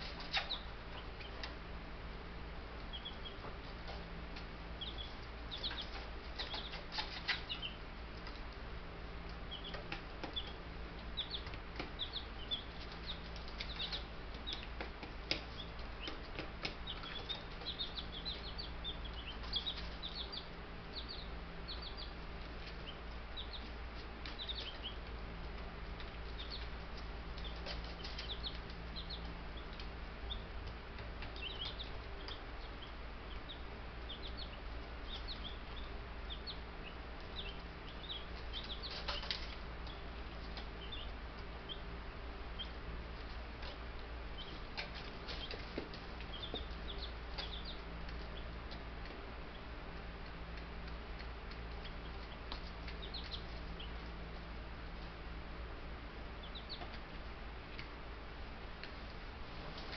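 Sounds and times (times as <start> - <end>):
chicks peeping: 0.0 - 59.9
steady low hum: 0.0 - 59.9.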